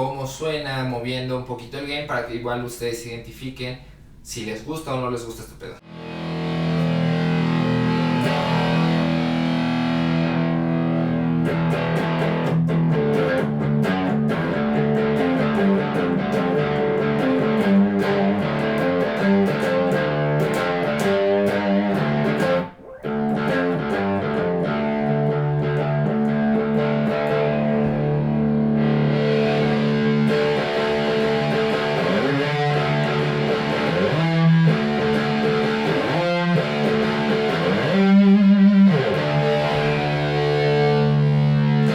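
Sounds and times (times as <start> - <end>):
distorted electric guitar: 5.8 - 41.9.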